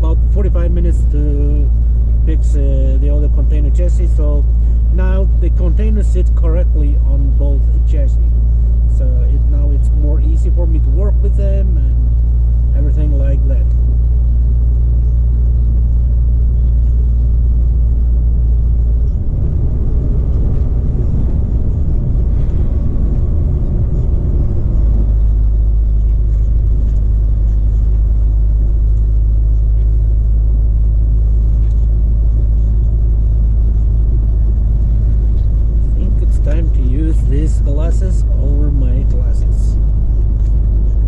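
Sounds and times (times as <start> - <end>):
truck cab engine and road drone: 0.0 - 41.0.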